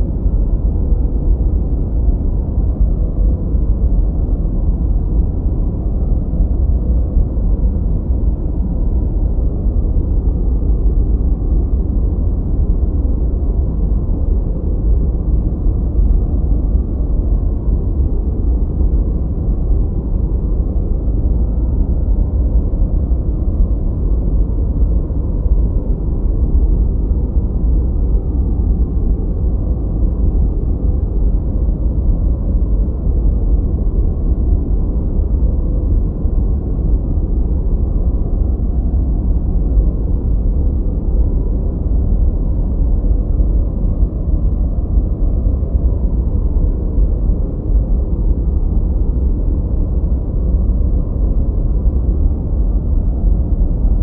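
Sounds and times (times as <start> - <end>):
deep filtered white noise: 0.0 - 54.0.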